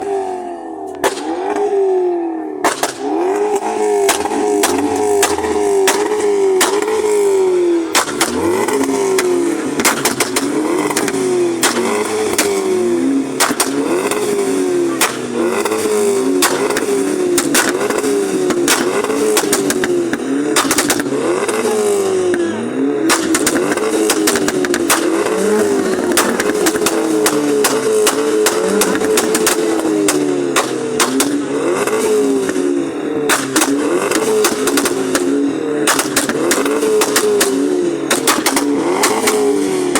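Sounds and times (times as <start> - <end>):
car engine revving: 0.0 - 39.9
exhaust pops and bangs: 0.9 - 1.7, 2.6 - 7.2, 7.9 - 12.6, 13.4 - 14.4, 15.0 - 21.6, 23.0 - 32.6, 33.3 - 39.9.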